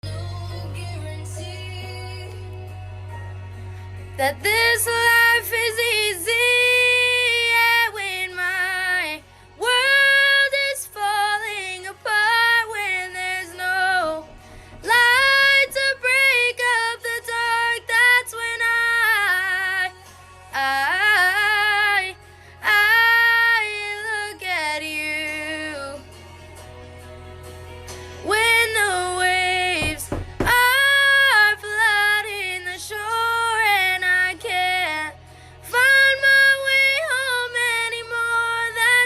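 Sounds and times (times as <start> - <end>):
woman singing with vibrato: 4.2 - 26.0, 28.2 - 39.0.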